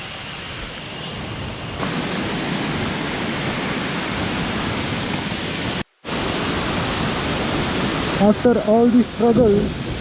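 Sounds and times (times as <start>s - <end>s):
waterfall rushing: 1.8s - 10.0s.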